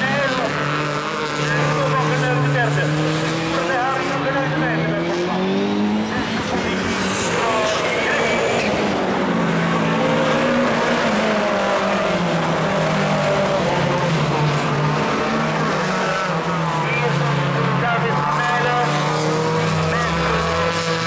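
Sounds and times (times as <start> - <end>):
race car engines revving: 0.0 - 21.0
tyre and road noise: 0.0 - 21.0.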